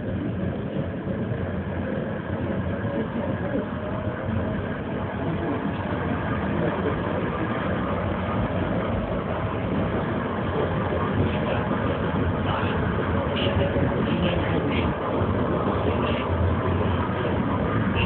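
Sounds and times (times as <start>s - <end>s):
tram running rumble: 0.0s - 18.0s.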